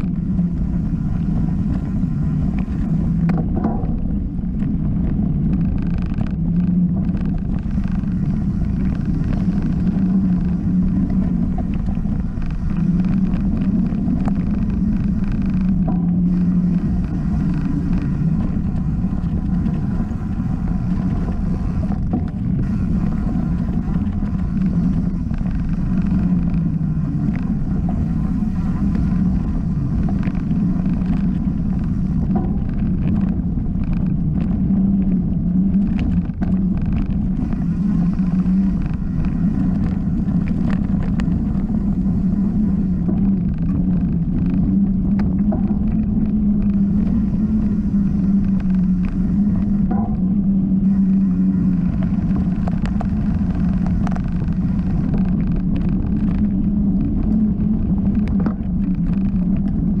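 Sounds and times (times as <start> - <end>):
bike clicks and rattles: 0.0 - 60.0
bike tyres rumbling on dirt: 0.0 - 60.0
wind on camera: 0.0 - 60.0.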